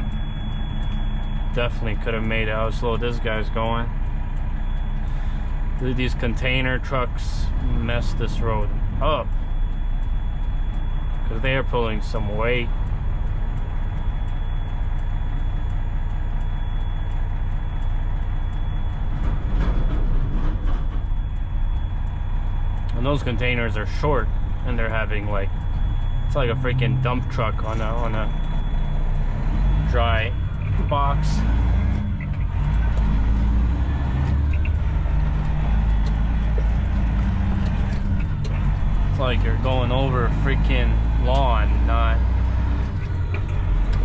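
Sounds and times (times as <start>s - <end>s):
truck engine and tyres rumbling: 0.0s - 44.0s.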